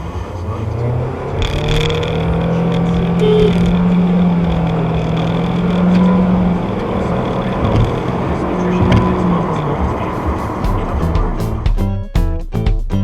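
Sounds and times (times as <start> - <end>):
car engine: 0.0 - 11.7
road noise: 0.0 - 11.7.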